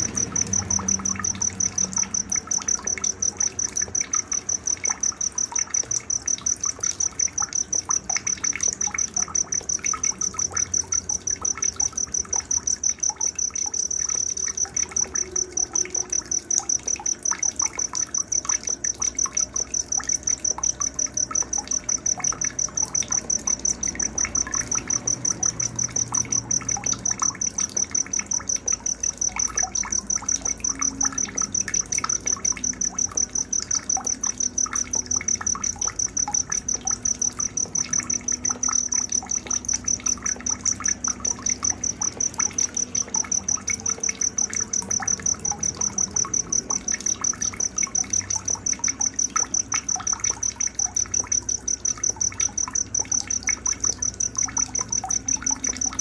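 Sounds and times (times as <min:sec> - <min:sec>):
cricket chirping: 0:00.0 - 0:56.0.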